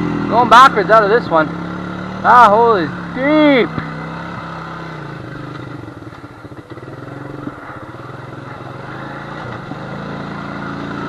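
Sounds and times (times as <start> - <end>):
atv engine at low revs: 0.0 - 11.0.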